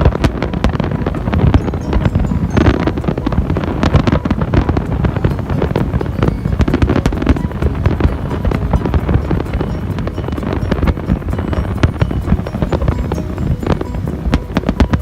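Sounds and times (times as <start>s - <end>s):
fireworks bangs and crackles: 0.0s - 15.0s
wind buffeting the microphone: 0.0s - 15.0s.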